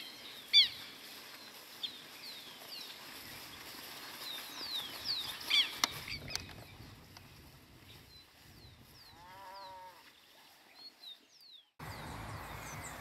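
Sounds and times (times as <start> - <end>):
birds chirping: 0.0 - 6.8, 8.0 - 13.0.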